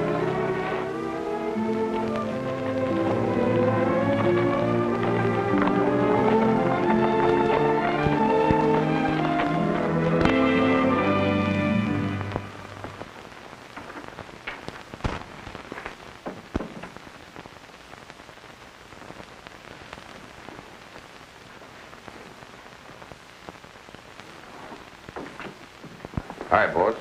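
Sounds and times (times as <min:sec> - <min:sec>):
old film soundtrack hiss: 0:00.0 - 0:27.0.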